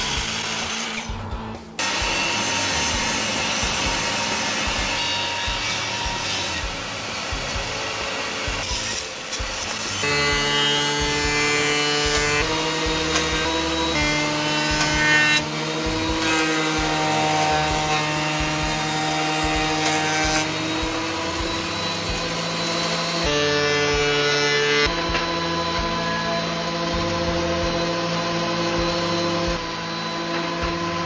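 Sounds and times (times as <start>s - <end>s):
music with slow held chords: 0.0s - 31.0s
table saw cutting wood: 0.0s - 31.0s
thickness planer cutting wood: 0.0s - 31.0s.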